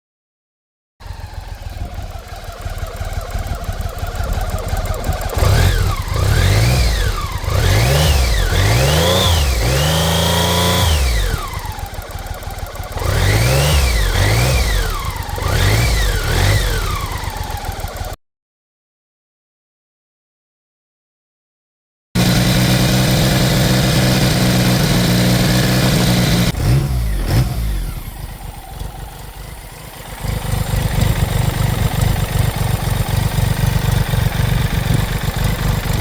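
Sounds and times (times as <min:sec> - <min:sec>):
motorcycle engine idling and revving: 0:01.0 - 0:18.2, 0:22.2 - 0:36.0.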